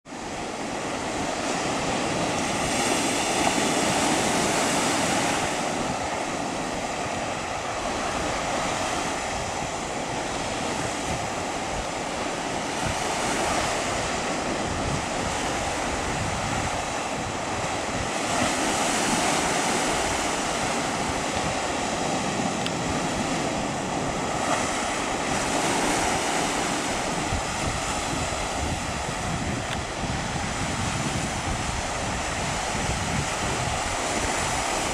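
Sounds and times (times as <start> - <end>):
sea surf washing onto beach: 0.0 - 34.9
wind buffeting microphone: 0.1 - 34.9.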